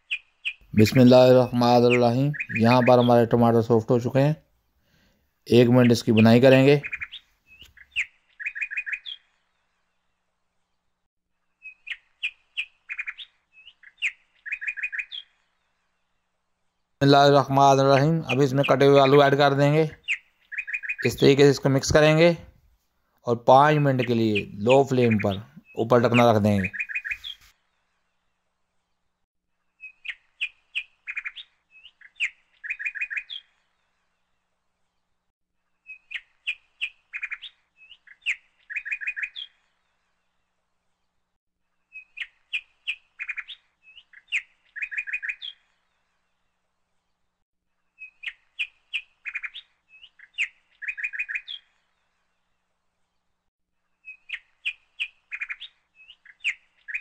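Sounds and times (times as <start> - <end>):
birds chirping: 0.0 - 22.6, 23.2 - 29.1, 29.7 - 35.2, 35.8 - 41.2, 41.8 - 47.2, 47.9 - 57.0.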